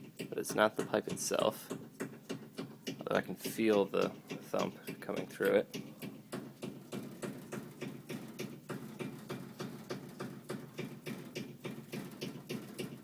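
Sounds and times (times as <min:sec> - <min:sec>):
air conditioner thumping: 0:00.0 - 0:13.0.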